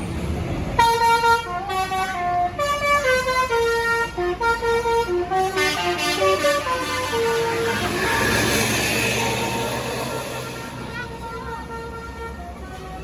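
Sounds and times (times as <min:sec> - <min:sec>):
bus horn playing melody: 0:00.8 - 0:13.0.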